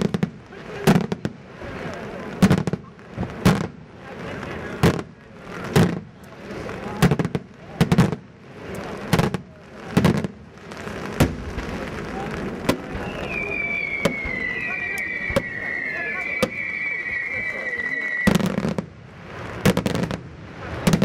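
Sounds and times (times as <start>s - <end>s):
fireworks bursting: 0.0s - 21.0s
fireworks crackle and echo: 0.0s - 21.0s.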